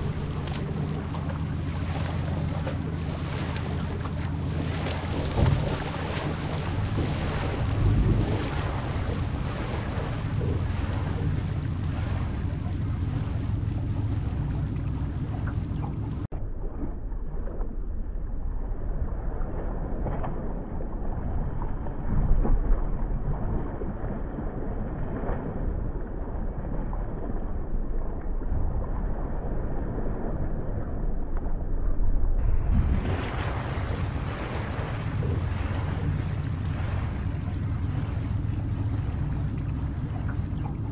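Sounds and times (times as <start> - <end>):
wind buffeting microphone: 0.0 - 16.3, 17.9 - 40.9
boat engine rumble: 0.0 - 40.9.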